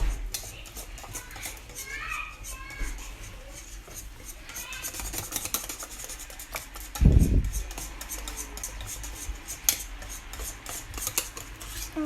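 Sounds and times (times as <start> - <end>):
spoon scraping a saucepan: 0.0 - 12.0.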